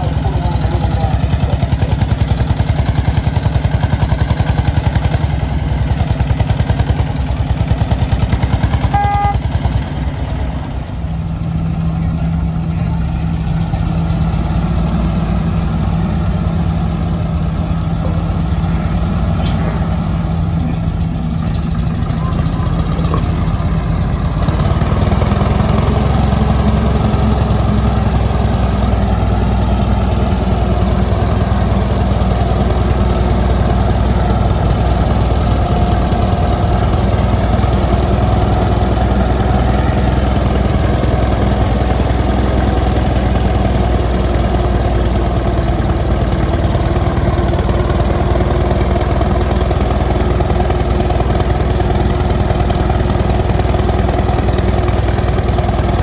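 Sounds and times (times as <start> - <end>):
tractor engine running with knock: 0.0 - 56.0.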